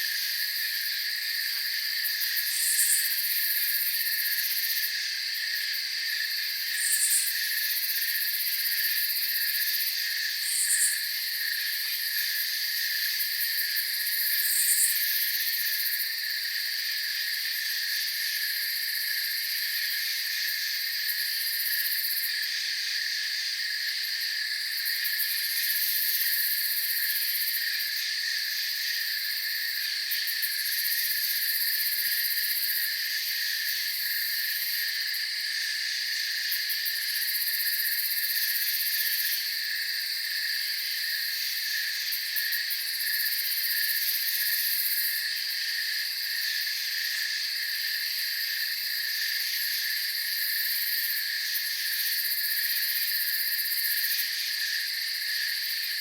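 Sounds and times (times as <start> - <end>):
crickets chirping: 0.0 - 56.0
shrill high insect layer: 0.0 - 56.0.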